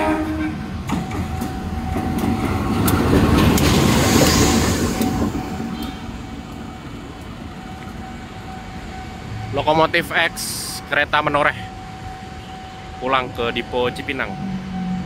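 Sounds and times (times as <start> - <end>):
diesel locomotive passing: 0.0 - 15.0
train wheels on rails: 0.0 - 15.0.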